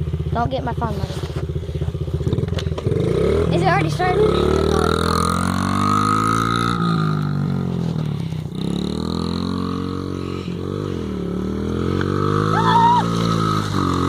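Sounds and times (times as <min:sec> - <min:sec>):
small engine revving: 0:02.2 - 0:14.0.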